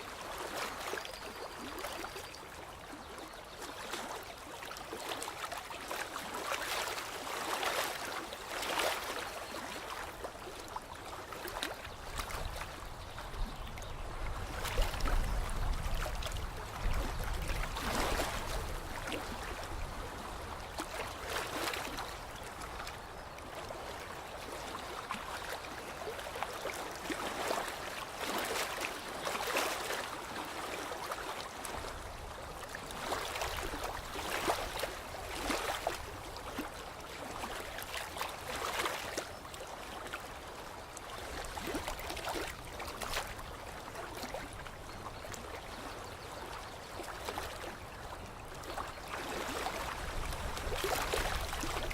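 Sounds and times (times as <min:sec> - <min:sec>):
water lapping at shore: 0:00.0 - 0:51.9.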